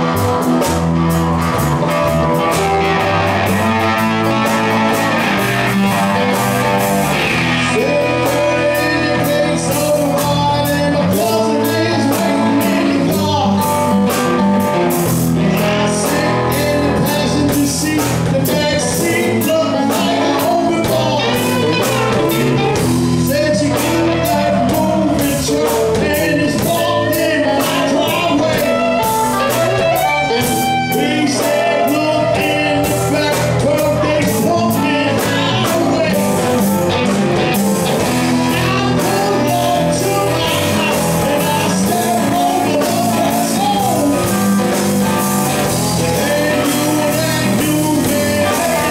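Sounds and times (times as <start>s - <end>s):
blues-rock band playing: 0.0s - 48.9s
drum kit beat: 0.0s - 48.9s
man singing: 2.3s - 48.9s.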